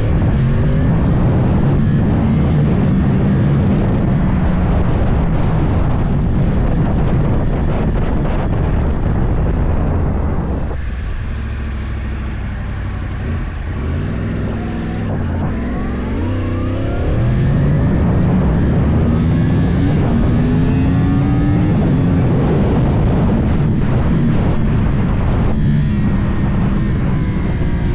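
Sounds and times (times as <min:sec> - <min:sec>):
motorcycle engine accelerating: 0:00.0 - 0:27.9
wind rushing over microphone: 0:00.0 - 0:27.9.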